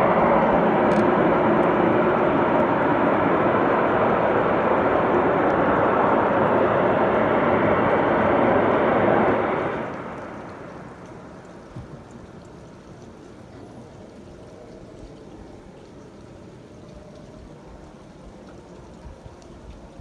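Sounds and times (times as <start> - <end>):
steady rushing roar from the sky: 0.0 - 20.0.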